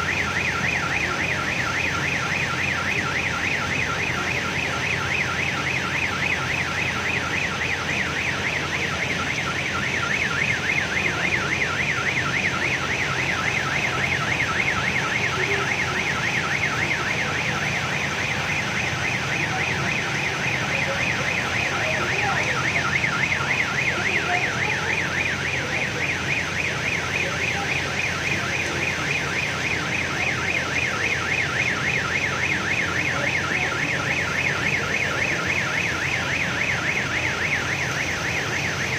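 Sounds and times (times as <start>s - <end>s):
electronic alarm warbling: 0.0s - 38.9s.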